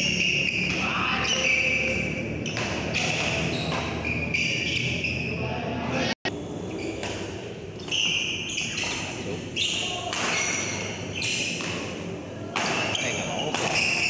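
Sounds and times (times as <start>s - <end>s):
rackets striking shuttlecock: 0.0s - 4.6s, 6.9s - 14.0s
sneakers squeaking on court: 0.0s - 5.5s, 6.3s - 14.0s.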